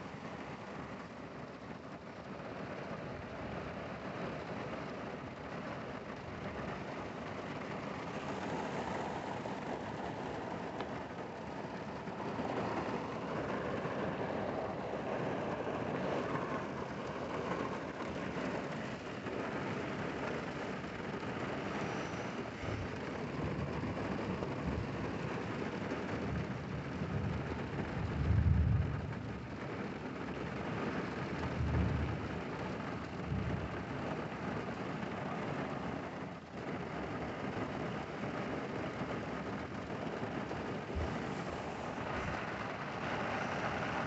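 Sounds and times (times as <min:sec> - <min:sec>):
heavy rain on a car roof: 0:00.0 - 0:44.0.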